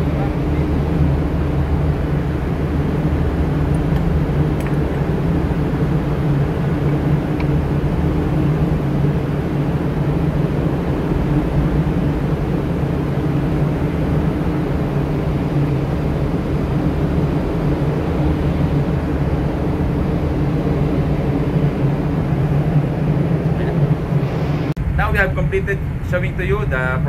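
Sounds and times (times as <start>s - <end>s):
even rushing noise: 0.0s - 27.0s
low machinery hum: 0.0s - 27.0s.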